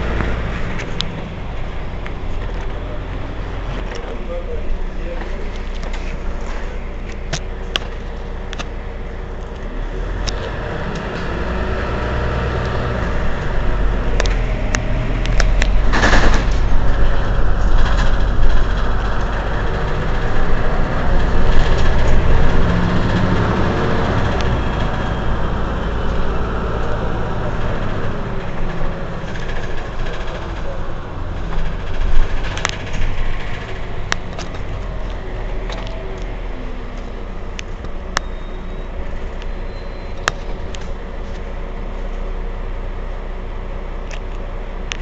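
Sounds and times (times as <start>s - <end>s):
bus diesel engine running: 0.0s - 45.0s.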